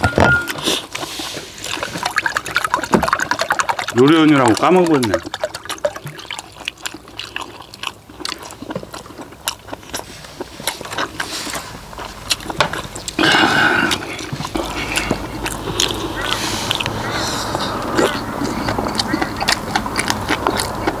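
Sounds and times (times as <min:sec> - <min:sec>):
chewing and mouth smacks: 0:00.0 - 0:21.0.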